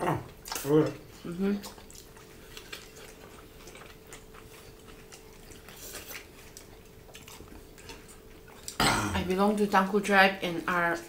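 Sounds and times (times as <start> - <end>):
faint steady hum: 0.0 - 11.0
people chewing: 0.0 - 11.0.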